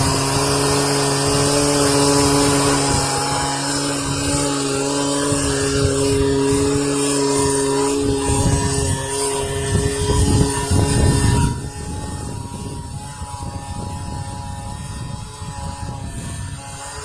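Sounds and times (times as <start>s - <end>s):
leaf blower engine running: 0.0s - 17.0s.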